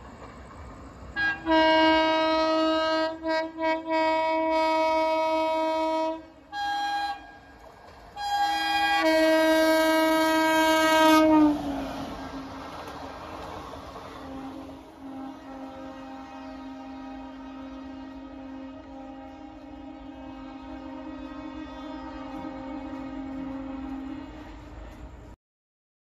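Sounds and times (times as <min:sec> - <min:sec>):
locomotive horn blasts: 0:01.2 - 0:07.6, 0:08.2 - 0:11.7, 0:14.2 - 0:25.1.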